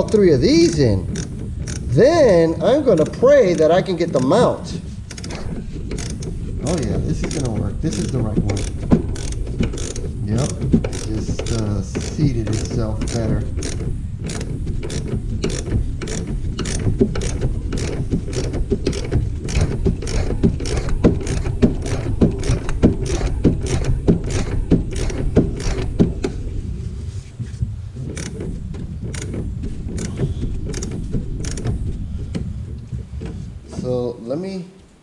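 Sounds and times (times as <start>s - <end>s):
ratchet wrench clicking: 0.0s - 4.4s, 5.1s - 26.0s, 28.1s - 28.5s, 29.1s - 31.7s.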